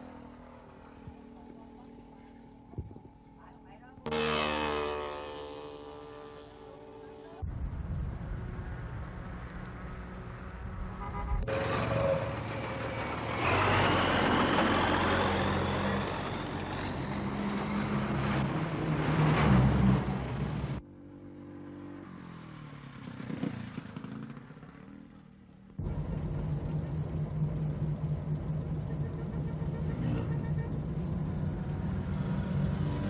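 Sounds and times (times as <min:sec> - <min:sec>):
vehicle engines running: 0:00.0 - 0:20.8, 0:21.7 - 0:33.0
road traffic noise: 0:00.0 - 0:33.0.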